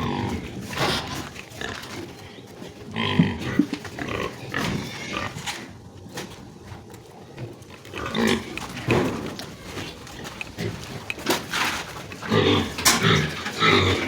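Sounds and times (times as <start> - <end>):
pigs grunting: 0.0 - 14.0.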